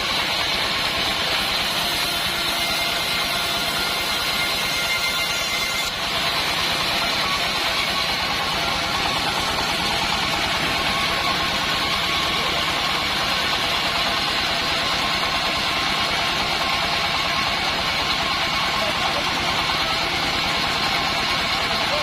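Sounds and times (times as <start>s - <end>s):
band sawmill running: 0.0s - 22.0s.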